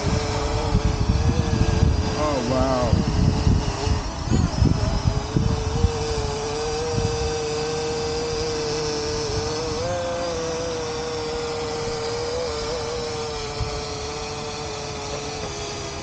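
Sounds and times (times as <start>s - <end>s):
drone propellers whining: 0.0s - 16.0s
wind buffeting microphone: 0.0s - 16.0s.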